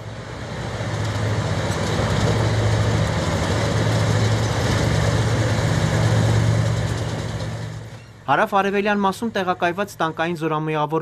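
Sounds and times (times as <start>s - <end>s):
tank diesel engines droning: 0.0s - 11.0s.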